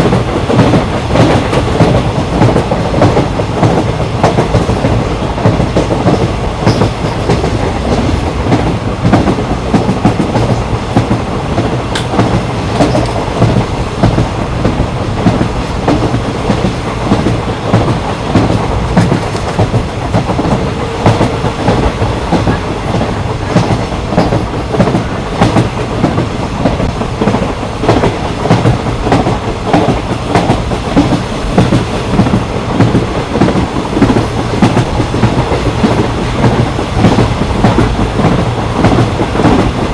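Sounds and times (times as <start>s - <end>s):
train carriage rumble: 0.0s - 39.9s
wheels clicking over rail joints: 0.0s - 39.9s.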